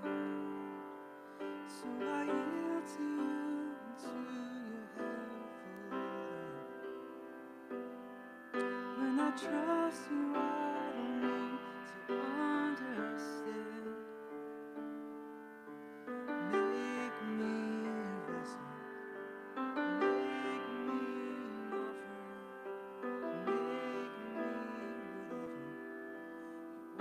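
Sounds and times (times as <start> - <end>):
sustained keyboard chords: 0.0 - 27.0.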